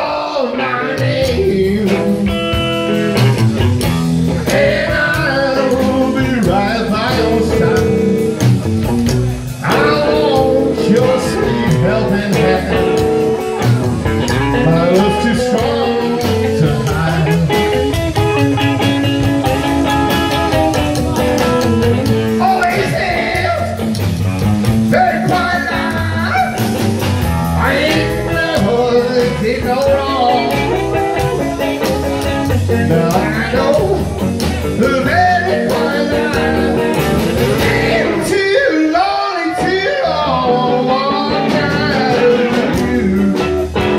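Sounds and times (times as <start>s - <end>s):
person singing: 0.0s - 3.3s, 4.0s - 23.8s, 24.9s - 26.8s, 27.5s - 43.9s
electric guitar: 0.0s - 43.9s
live blues rock band playing: 0.0s - 43.9s.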